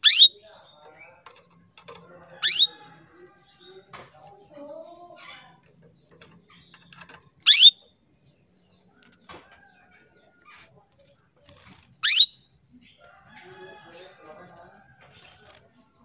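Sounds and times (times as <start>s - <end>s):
faint canary chirps: 0.0s - 16.0s.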